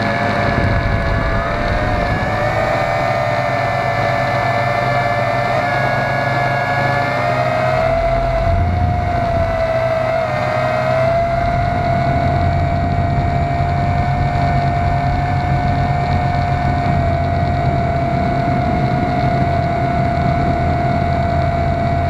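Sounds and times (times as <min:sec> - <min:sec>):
drone propellers whining: 0:00.0 - 0:22.0
low rumble: 0:00.0 - 0:22.0.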